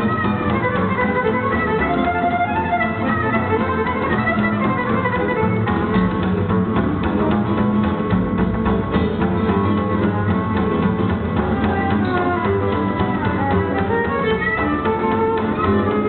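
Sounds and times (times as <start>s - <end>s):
strummed guitar: 0.0s - 16.0s
violin playing swing music: 0.0s - 16.0s.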